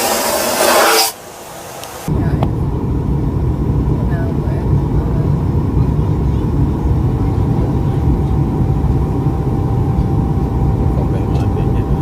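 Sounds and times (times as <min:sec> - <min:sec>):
faint steady whine: 0:00.0 - 0:12.0
aircraft cabin engine rumble: 0:01.2 - 0:12.0.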